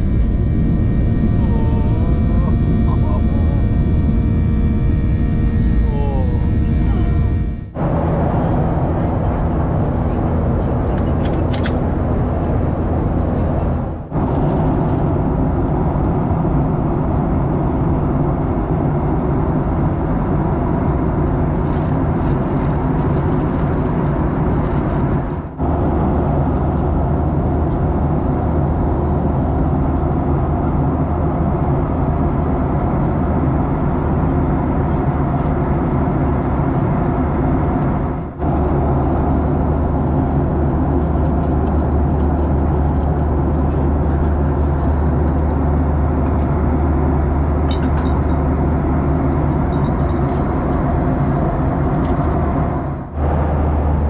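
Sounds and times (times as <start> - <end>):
jet airliner cabin drone: 0.0 - 54.0.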